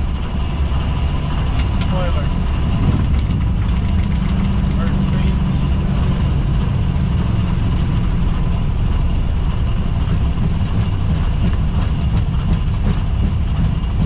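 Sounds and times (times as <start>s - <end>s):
aircraft landing rumble: 0.0s - 14.0s.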